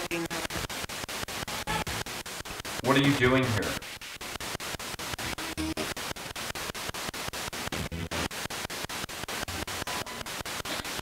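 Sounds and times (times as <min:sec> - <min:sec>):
choppy radio static hiss: 0:00.0 - 0:11.0
snatch of radio sound: 0:00.3 - 0:11.0.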